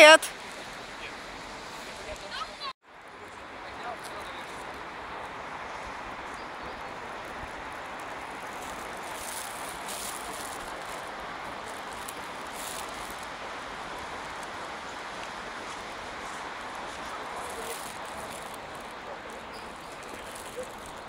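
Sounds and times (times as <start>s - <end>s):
distant city traffic hum: 0.0s - 21.0s
hissy rustles: 3.3s - 21.0s.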